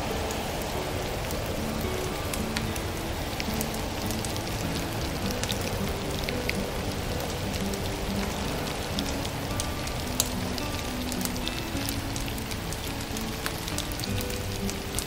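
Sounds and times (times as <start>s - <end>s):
soft background music: 0.0s - 15.0s
wood fire crackling: 0.0s - 15.0s.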